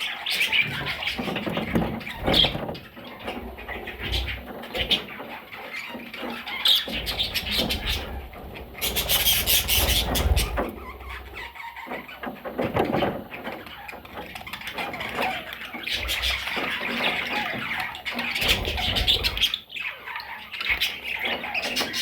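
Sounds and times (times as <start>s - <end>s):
parrots squawking: 0.0s - 12.3s, 13.4s - 22.0s.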